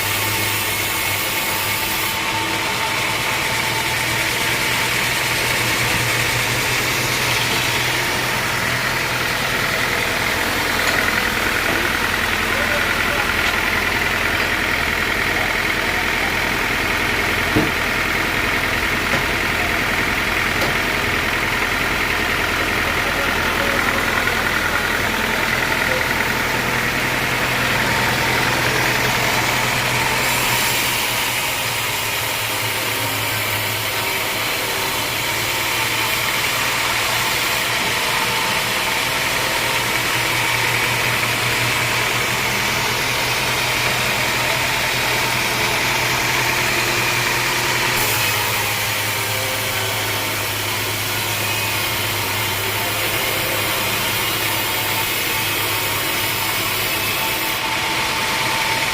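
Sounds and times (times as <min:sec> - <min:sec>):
sawmill engine running: 0:00.0 - 0:58.9.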